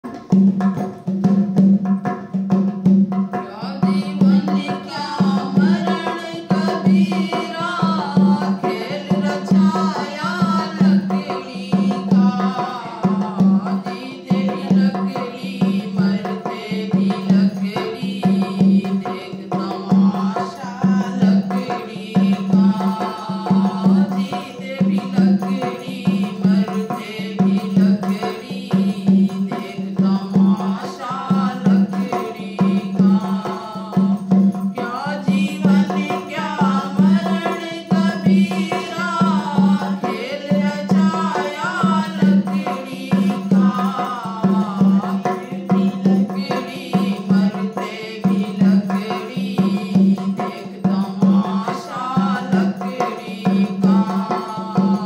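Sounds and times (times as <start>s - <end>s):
hand drum beating: 0.0s - 55.0s
woman singing: 3.3s - 55.0s.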